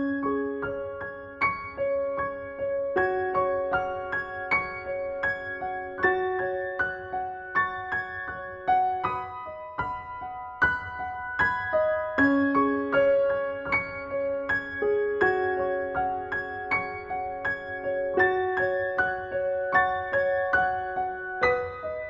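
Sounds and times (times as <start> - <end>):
soft piano notes: 0.0 - 22.0.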